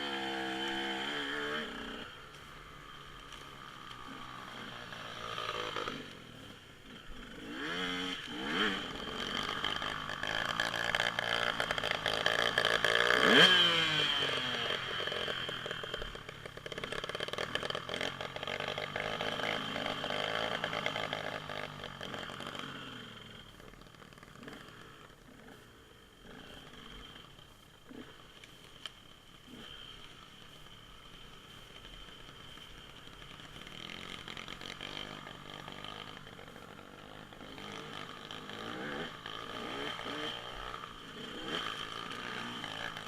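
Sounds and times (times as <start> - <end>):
dirt bike engine revving past: 0.0 - 28.2, 31.5 - 43.0.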